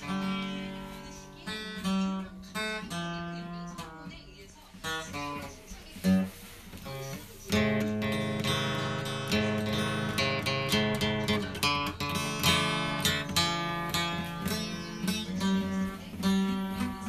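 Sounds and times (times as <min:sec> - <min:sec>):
acoustic guitar strumming chords: 0:00.0 - 0:04.2, 0:04.8 - 0:17.0.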